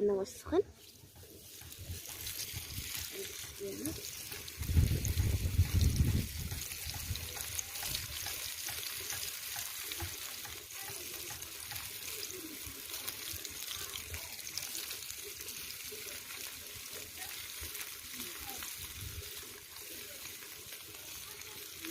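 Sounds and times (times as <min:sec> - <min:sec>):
small crackles: 0:00.0 - 0:21.9
oil sizzling in frying pan: 0:00.1 - 0:21.9.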